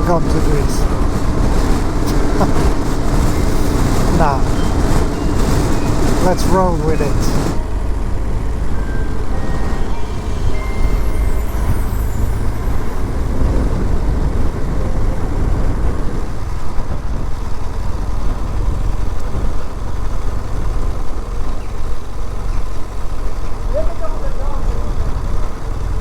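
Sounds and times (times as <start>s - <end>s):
wind rush and buffeting: 0.0s - 25.0s
motorcycle engine cruising: 0.0s - 26.0s.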